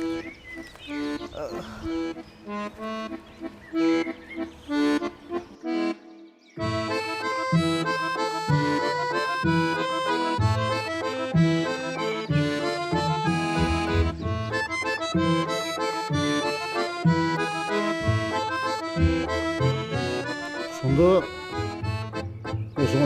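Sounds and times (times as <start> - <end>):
accordion music: 0.0 - 23.0.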